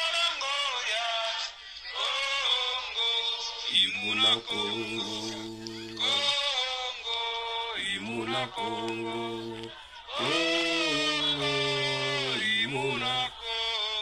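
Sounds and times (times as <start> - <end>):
man singing unaccompanied: 2.0 - 14.0.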